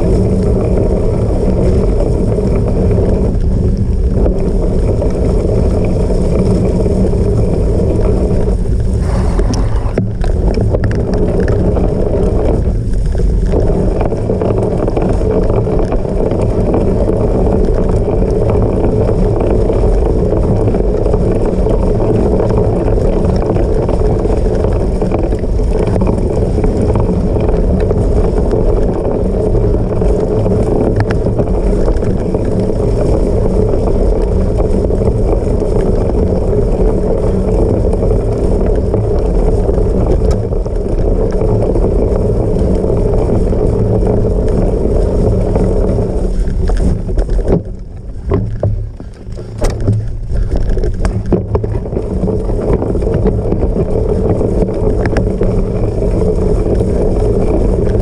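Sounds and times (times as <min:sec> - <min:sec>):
bike rolling noise: 0:00.0 - 0:58.0
wind rushing on microphone: 0:00.0 - 0:58.0.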